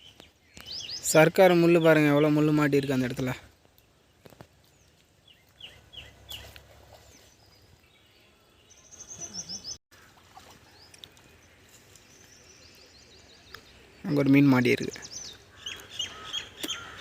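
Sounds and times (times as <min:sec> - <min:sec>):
birds chirping: 0:00.0 - 0:17.0
faint outdoor background noise: 0:00.0 - 0:17.0.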